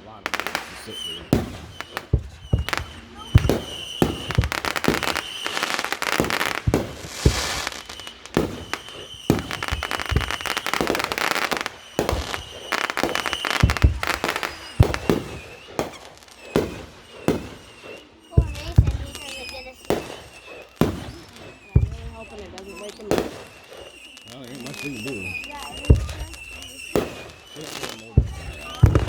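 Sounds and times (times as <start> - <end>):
firework high whistling: 0.0 - 29.0
firework hissing: 0.0 - 29.0
fireworks bangs and crackling: 0.0 - 29.0.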